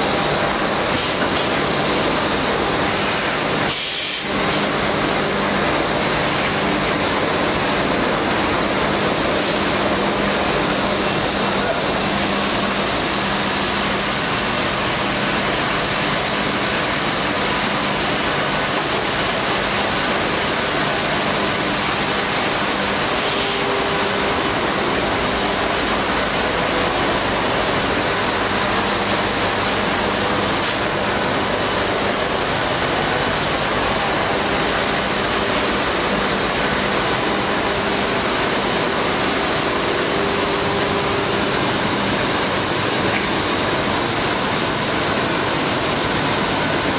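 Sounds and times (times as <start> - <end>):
woodworking machinery running: 0.0 - 46.9.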